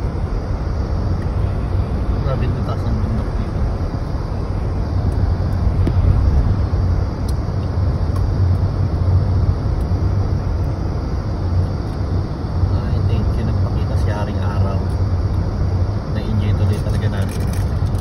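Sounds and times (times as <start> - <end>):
car cabin road noise: 0.0 - 18.0.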